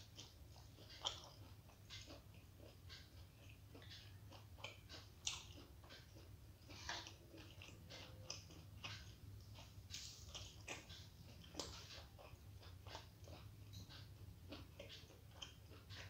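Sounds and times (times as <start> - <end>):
low steady hum: 0.0 - 16.0
wet chewing mouth sounds: 0.0 - 16.0.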